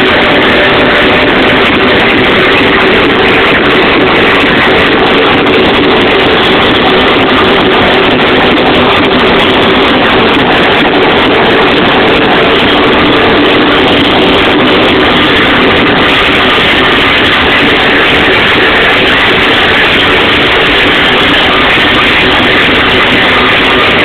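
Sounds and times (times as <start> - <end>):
distorted loud dance music: 0.0 - 24.0.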